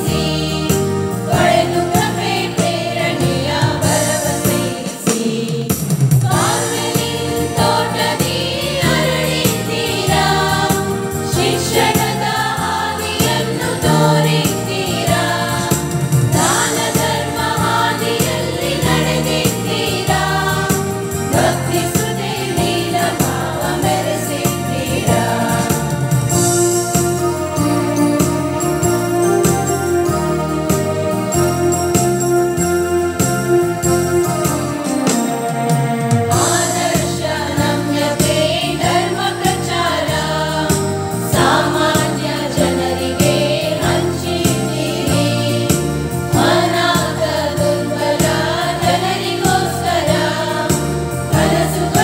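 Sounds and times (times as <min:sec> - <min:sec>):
group singing devotional song: 0:00.0 - 0:26.5, 0:36.3 - 0:52.0
instrumental backing music: 0:00.0 - 0:52.0.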